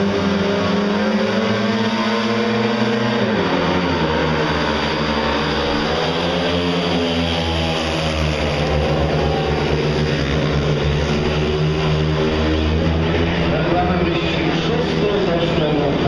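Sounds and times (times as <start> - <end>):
motorcycle engines racing: 0.0 - 16.0.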